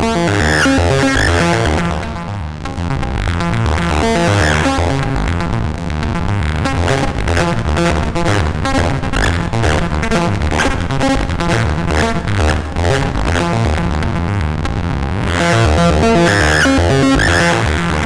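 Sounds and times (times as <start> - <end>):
synthesizer bass line: 0.0 - 18.0.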